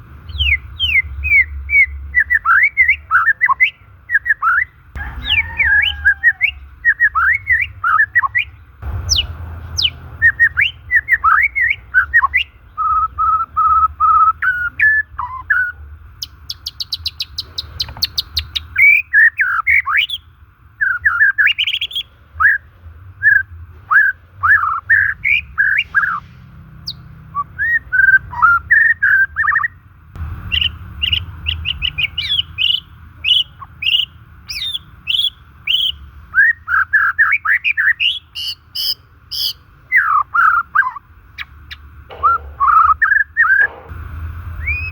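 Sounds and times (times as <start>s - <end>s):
bird singing whistled song: 0.3s - 29.8s, 30.5s - 43.7s, 44.6s - 44.9s.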